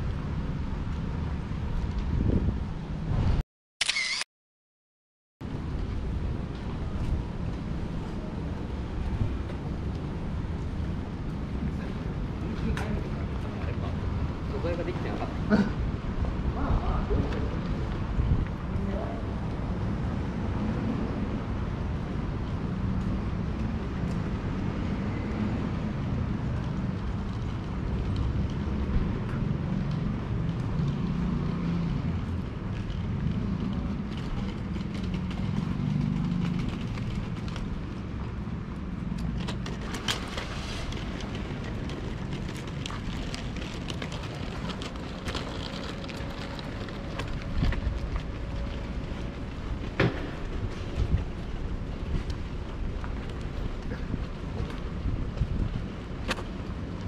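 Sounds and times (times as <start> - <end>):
road traffic rumbling: 5.4 - 57.0.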